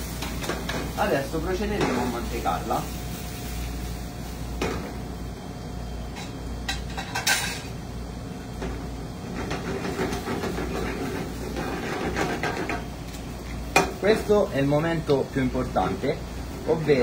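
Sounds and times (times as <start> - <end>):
gas burner rumble: 0.0 - 17.0
spaghetti sizzling in a pan: 0.0 - 17.0.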